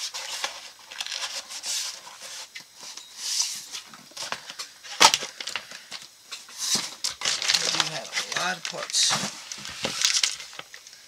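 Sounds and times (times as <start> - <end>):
packaging rustling: 0.0 - 10.9.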